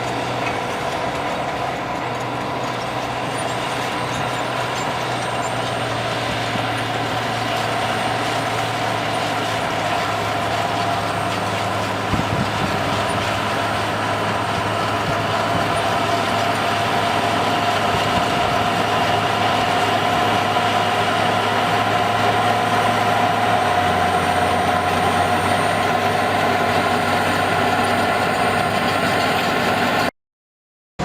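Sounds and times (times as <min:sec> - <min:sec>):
heavy machine engine whining: 0:00.0 - 0:30.1.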